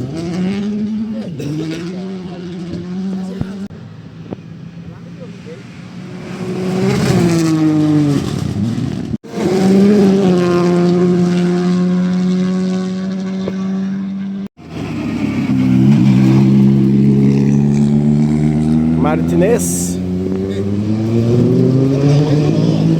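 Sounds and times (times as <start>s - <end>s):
rally car engines at high revs: 0.0s - 22.9s.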